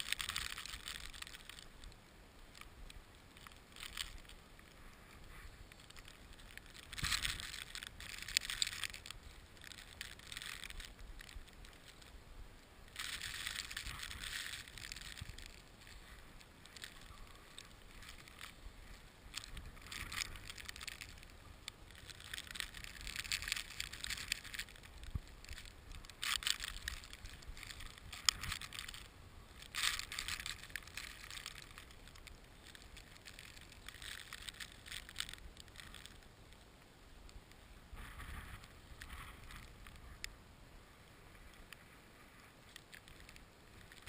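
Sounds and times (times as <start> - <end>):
wind-blown snow hissing: 0.0 - 44.0.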